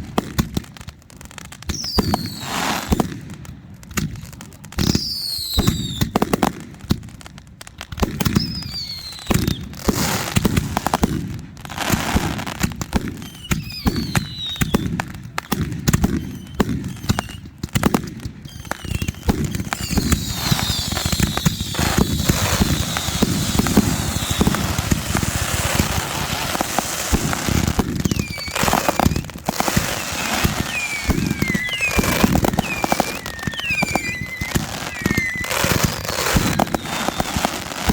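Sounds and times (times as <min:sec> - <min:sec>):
fireworks popping and crackling: 0:00.0 - 0:37.9
falling firework whistles: 0:01.5 - 0:03.1, 0:04.8 - 0:06.2, 0:08.2 - 0:11.0, 0:11.8 - 0:37.9.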